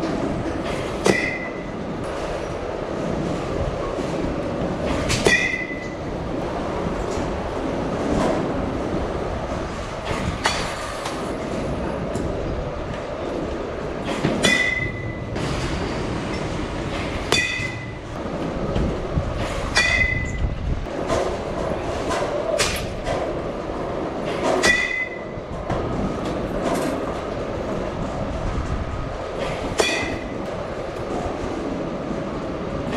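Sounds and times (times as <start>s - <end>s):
steady mechanical rumble: 0.0s - 32.9s.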